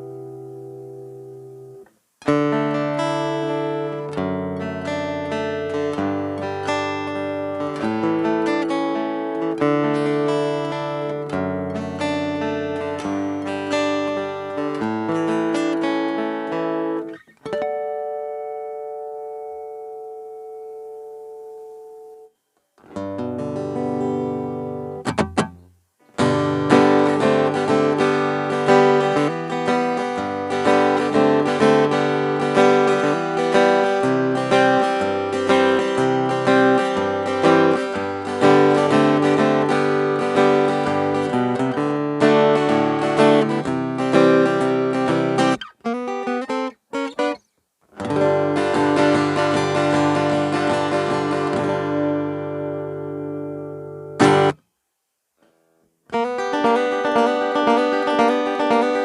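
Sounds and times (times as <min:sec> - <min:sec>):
acoustic guitar strumming: 0:00.0 - 0:54.7, 0:55.4 - 0:59.0.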